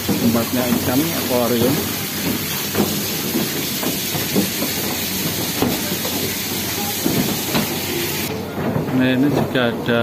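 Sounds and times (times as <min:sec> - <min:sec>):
waterfall splashing into pool: 0:00.0 - 0:08.3.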